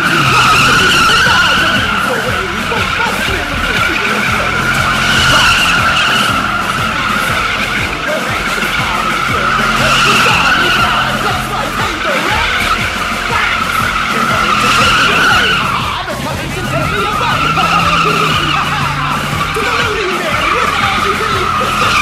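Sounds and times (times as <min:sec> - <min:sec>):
car engine at high revs: 0:00.0 - 0:22.0
tyres squealing: 0:00.0 - 0:22.0.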